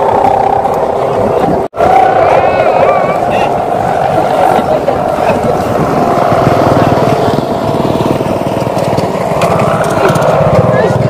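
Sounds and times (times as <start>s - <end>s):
kite hummers buzzing drone: 0.0s - 11.0s.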